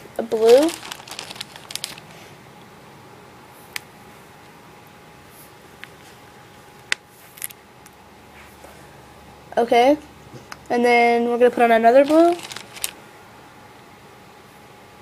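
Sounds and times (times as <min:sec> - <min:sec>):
steady quiet hiss: 0:00.0 - 0:15.0.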